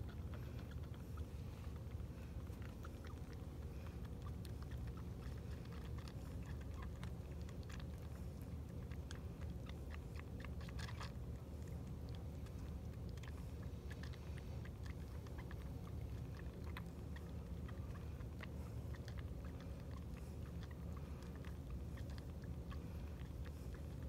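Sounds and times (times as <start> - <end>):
kitten suckling from bottle: 0.0 - 24.0
steady low hum: 0.0 - 24.0.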